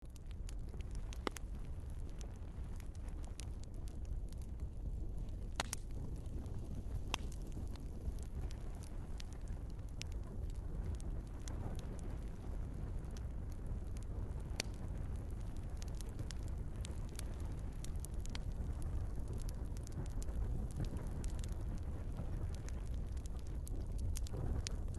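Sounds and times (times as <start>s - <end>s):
fire flames rumbling: 0.0s - 24.9s
logs crackling and popping: 0.0s - 24.9s.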